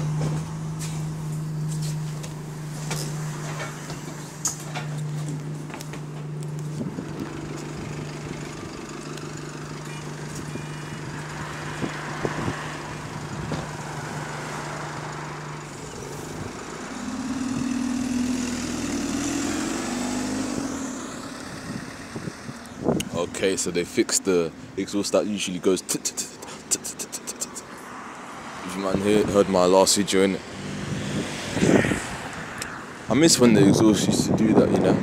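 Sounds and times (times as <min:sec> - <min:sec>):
diesel bus engine: 0:00.0 - 0:35.0.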